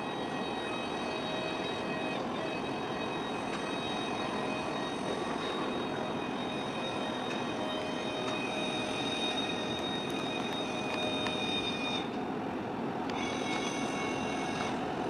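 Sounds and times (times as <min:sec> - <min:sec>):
high whining tones: 0:00.0 - 0:12.3, 0:13.0 - 0:15.0
ship engine rumble and hum: 0:00.0 - 0:15.0.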